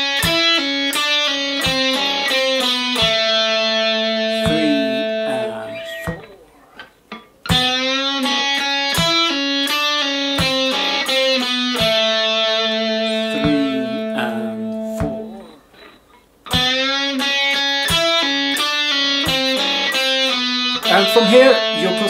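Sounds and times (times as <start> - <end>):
electric guitar lead phrase: 0.0 - 6.6, 7.5 - 15.9, 16.5 - 22.0.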